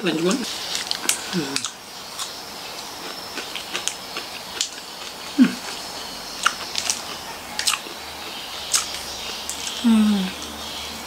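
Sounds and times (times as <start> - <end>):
crunching and chewing snack: 0.3 - 10.8.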